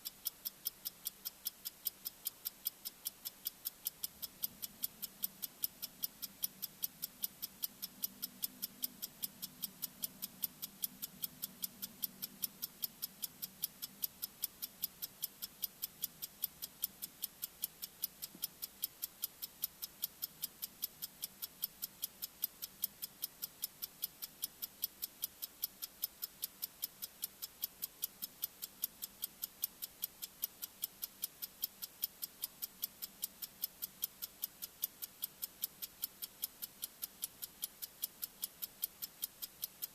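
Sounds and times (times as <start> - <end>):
high-pitched timer ticking: 0.0 - 39.9.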